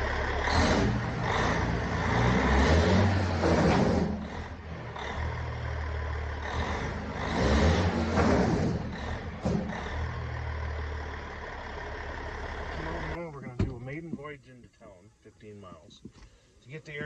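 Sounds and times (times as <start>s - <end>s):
diesel truck engine running: 0.0s - 14.4s.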